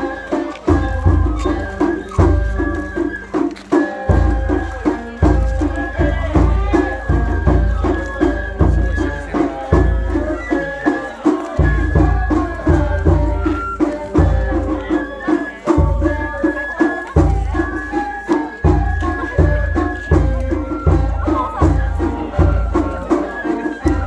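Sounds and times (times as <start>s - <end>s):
high bamboo flute melody: 0.0s - 24.0s
quick drum strokes: 0.0s - 24.0s.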